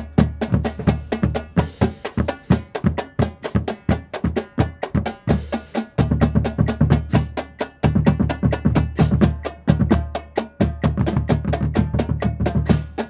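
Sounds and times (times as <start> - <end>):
bass drum notes: 0.0 - 13.0
marching snare drum strokes: 0.0 - 13.0.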